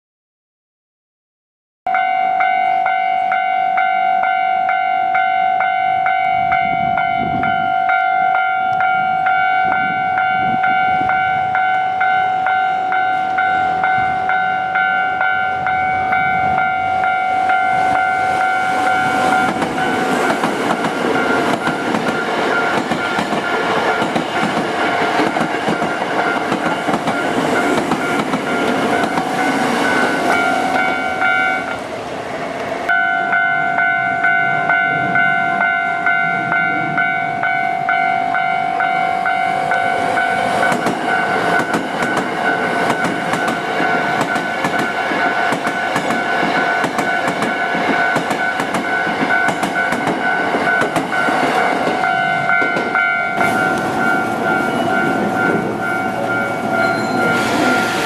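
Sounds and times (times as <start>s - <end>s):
crossing alarm electronic ding: 1.9s - 24.2s, 25.4s - 31.8s, 32.9s - 57.9s
train rumble and wheel clatter: 2.4s - 58.0s.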